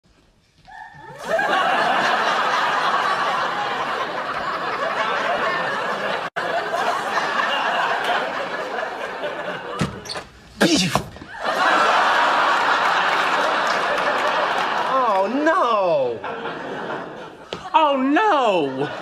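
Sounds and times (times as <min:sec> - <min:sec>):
studio audience laughing: 0:01.2 - 0:10.2, 0:11.3 - 0:19.0.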